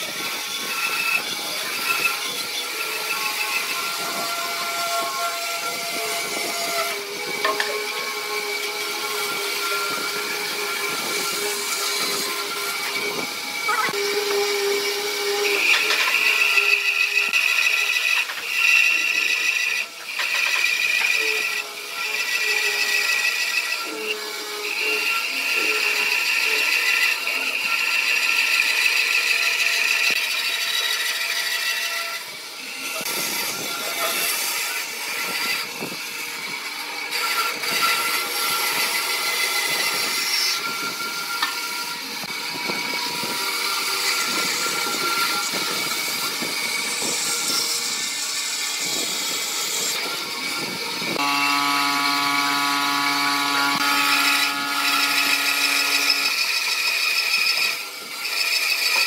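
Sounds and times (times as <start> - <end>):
band saw motor humming: 0.0 - 59.0
band saw rasping through wood: 0.0 - 59.0.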